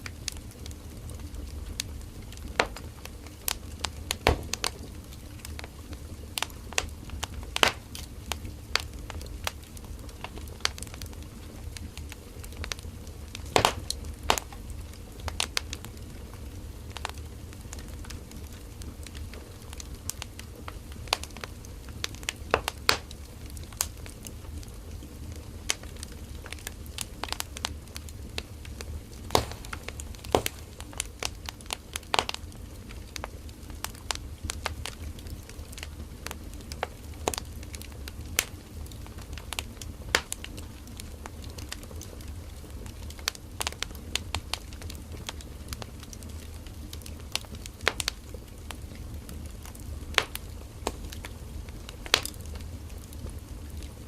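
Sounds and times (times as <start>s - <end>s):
burning firewood crackling: 0.0s - 54.0s.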